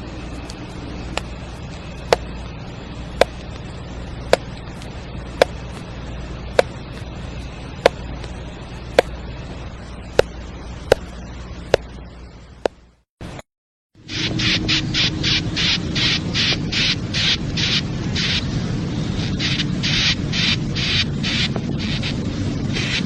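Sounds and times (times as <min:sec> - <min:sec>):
low background rumble: 0:00.0 - 0:13.4, 0:14.0 - 0:23.0.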